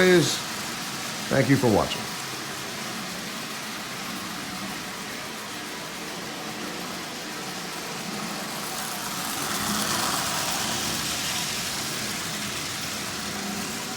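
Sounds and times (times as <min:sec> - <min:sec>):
toy train motor whirring and rattling: 0:00.0 - 0:13.9.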